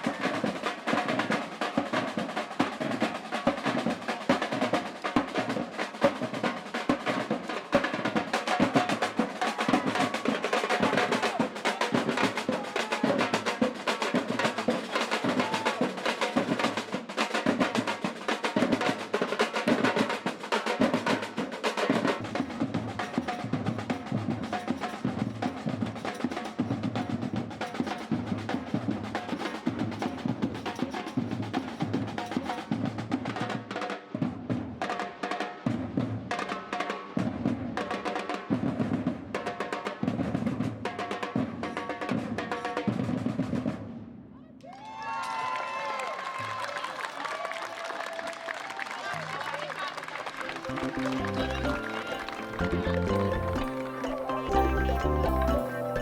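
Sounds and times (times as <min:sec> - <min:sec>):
percussion ensemble drumming: 0:00.0 - 0:44.3, 0:46.2 - 0:56.0.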